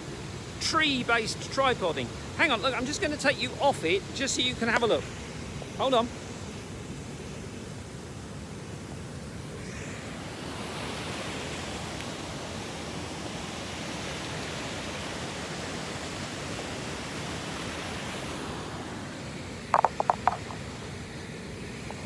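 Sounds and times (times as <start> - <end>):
river rushing over rapids: 0.0 - 22.0.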